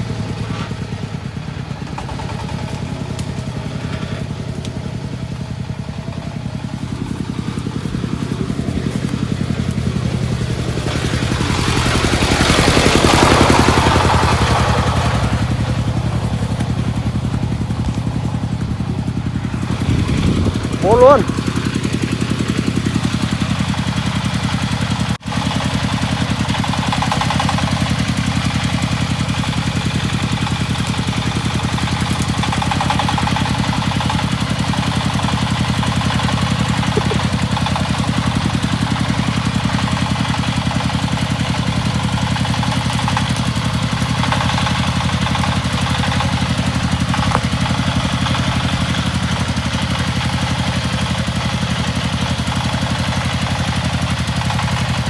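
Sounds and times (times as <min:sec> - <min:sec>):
diesel engine chugging: 0:00.0 - 0:55.0.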